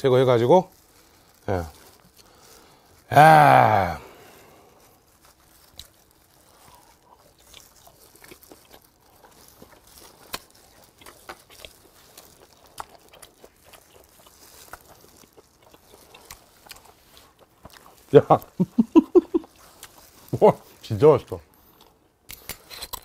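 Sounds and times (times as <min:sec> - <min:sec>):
biting and chewing crunchy food: 0:00.0 - 0:23.0.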